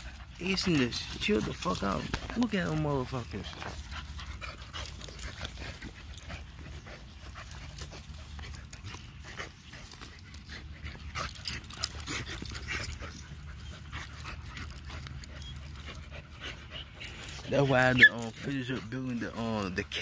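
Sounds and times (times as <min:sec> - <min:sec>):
dog mouth and breathing noises: 0:00.0 - 0:20.0
dogs scuffling: 0:00.0 - 0:20.0.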